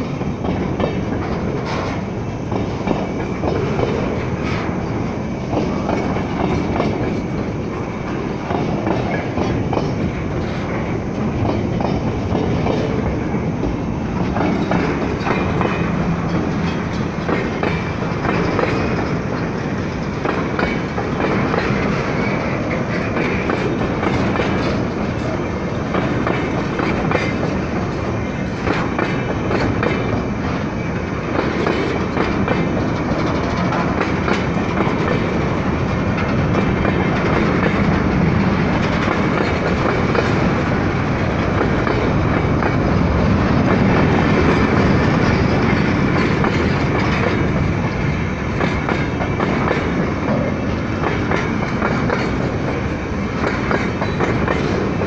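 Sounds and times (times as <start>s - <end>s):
steel wheels on rails: 0.0s - 55.0s
wheels clacking over rail joints: 0.0s - 55.0s.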